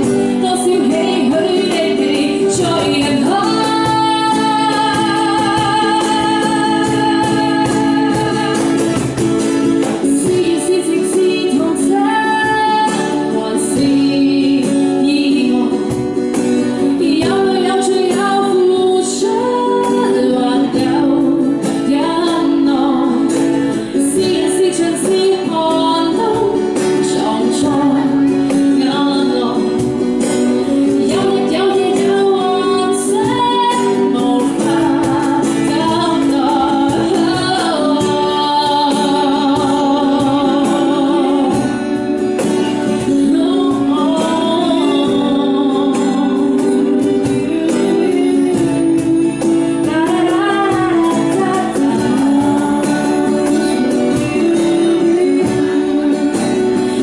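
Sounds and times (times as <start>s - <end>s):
cajon drumming: 0.0s - 57.0s
strummed acoustic guitar: 0.0s - 57.0s
woman singing pop song: 0.0s - 57.0s.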